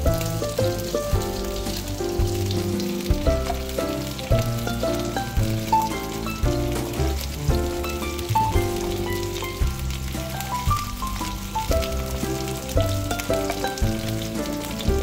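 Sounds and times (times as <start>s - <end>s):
background music with bass line: 0.0s - 15.0s
chicken wings sizzling in oil: 0.0s - 15.0s.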